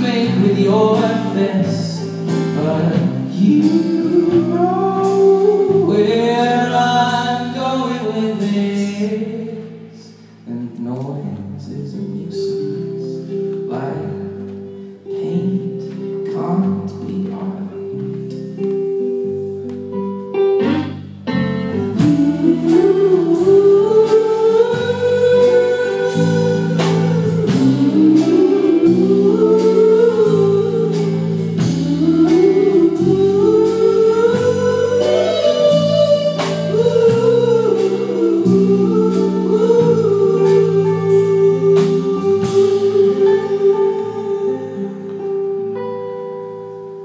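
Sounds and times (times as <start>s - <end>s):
held guitar chords: 0.0s - 47.0s
wordless vocal melody: 0.0s - 47.0s.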